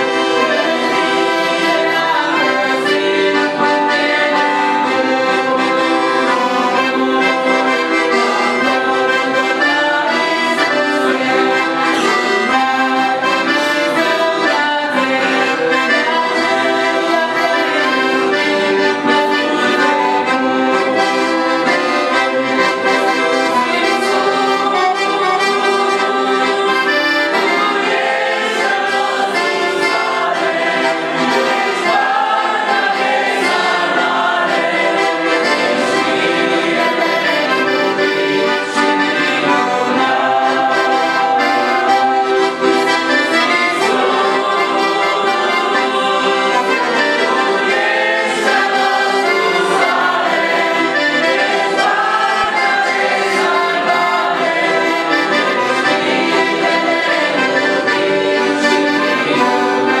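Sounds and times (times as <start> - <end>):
accordion playing hymn melody: 0.0 - 60.0.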